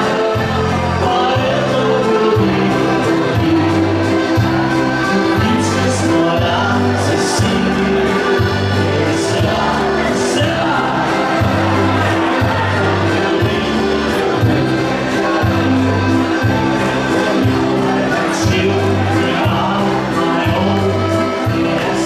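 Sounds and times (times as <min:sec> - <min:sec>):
accordion: 0:00.0 - 0:22.0
many voices singing along: 0:00.0 - 0:22.0
steady bass line: 0:00.0 - 0:22.0.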